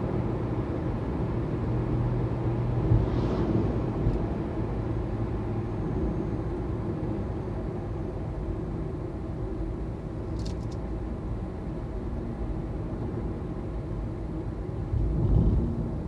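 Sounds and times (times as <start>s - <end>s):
road and tyre noise inside car: 0.0s - 16.0s.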